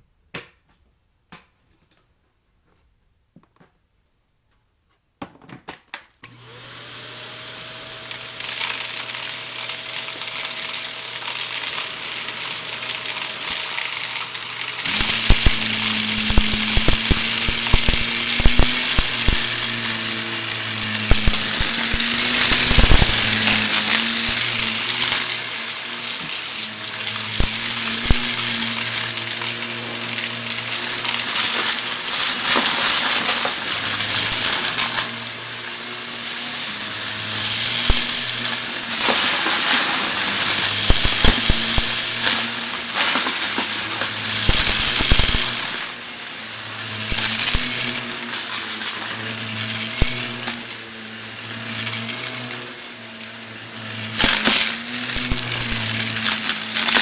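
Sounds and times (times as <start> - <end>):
vacuum cleaner motor hum: 6.2 - 57.0
debris crackling in vacuum: 6.3 - 57.0.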